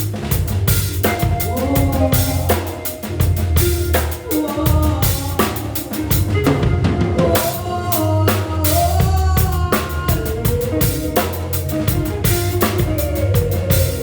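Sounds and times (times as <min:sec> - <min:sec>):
drum kit steady beat: 0:00.0 - 0:14.0
heavy bass line: 0:00.0 - 0:14.0
held bending melodic notes: 0:00.1 - 0:14.0.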